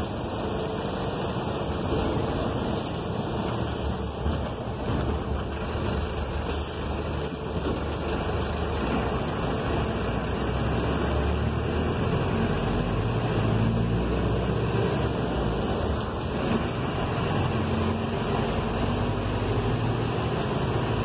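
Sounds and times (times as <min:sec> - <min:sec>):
tyres hissing on wet road: 0:00.0 - 0:05.0, 0:05.8 - 0:07.6, 0:08.4 - 0:21.0
bus engine rumble: 0:00.0 - 0:21.0.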